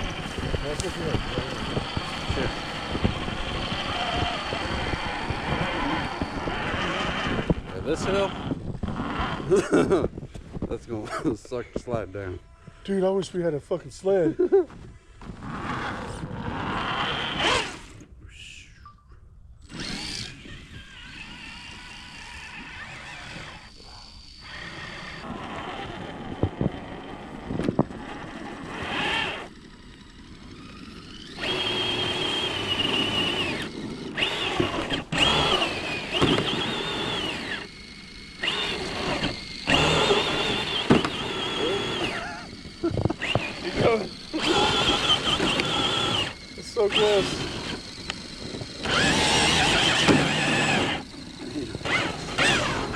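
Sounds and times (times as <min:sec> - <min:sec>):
electric toy truck motors whining: 0:00.0 - 0:11.1, 0:11.8 - 0:18.2, 0:19.6 - 0:52.9.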